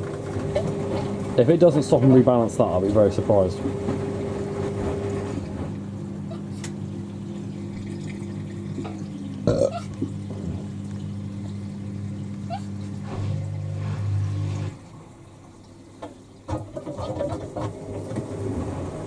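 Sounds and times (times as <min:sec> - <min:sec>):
loud water gurgle: 0:00.0 - 0:19.0
washing machine motor hum and whine: 0:00.0 - 0:19.0.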